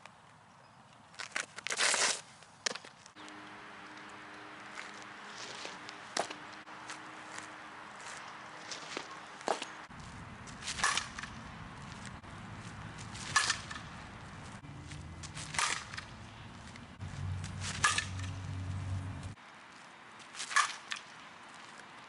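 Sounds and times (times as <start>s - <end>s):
bat cracking softballs: 1.2s - 19.4s, 20.3s - 21.8s.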